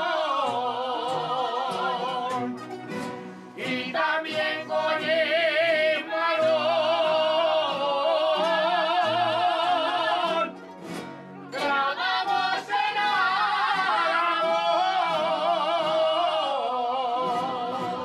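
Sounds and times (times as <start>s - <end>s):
people singing with vibrato: 0.0s - 10.6s, 11.4s - 18.0s
guitars and bandurria: 0.0s - 18.0s.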